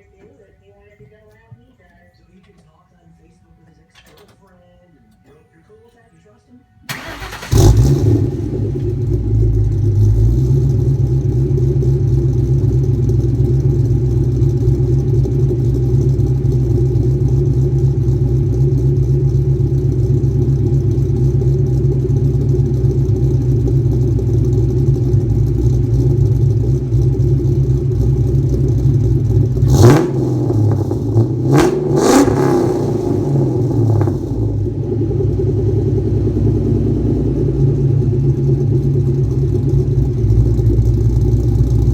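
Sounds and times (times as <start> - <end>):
engine revving: 6.9 - 41.9
car engine idling choppily: 7.0 - 41.9.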